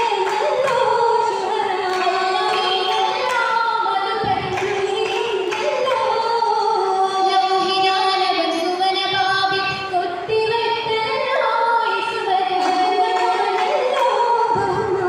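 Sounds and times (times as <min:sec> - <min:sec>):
girls singing together: 0:00.0 - 0:15.0.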